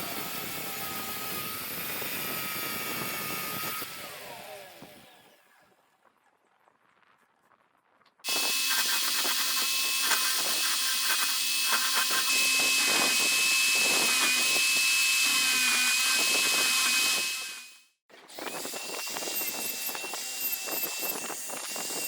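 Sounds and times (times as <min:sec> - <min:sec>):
power tool whining on wood: 0:00.0 - 0:05.6, 0:08.3 - 0:22.0.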